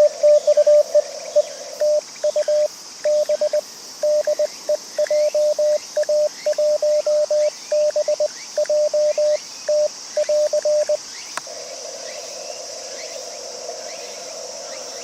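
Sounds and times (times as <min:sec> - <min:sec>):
insects chirring: 0:00.0 - 0:15.0
receiver hiss: 0:00.0 - 0:15.0.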